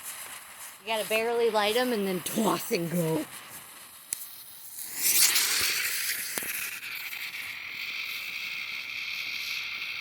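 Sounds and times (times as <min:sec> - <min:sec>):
spinner firework hissing: 0:00.0 - 0:10.0.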